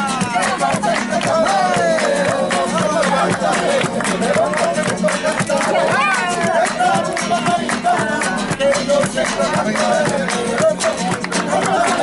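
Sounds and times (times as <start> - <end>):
acoustic guitar strummed briskly: 0.0 - 12.0
person singing: 0.0 - 12.0.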